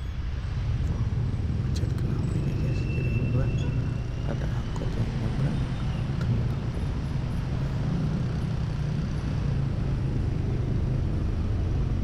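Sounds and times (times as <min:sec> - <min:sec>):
surrounding traffic noise: 0:00.0 - 0:12.0.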